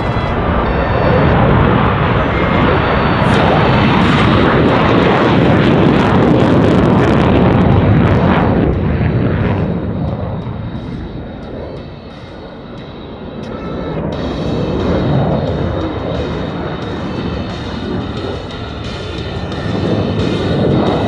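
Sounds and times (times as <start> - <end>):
jet engine roaring past: 0.0 - 21.0.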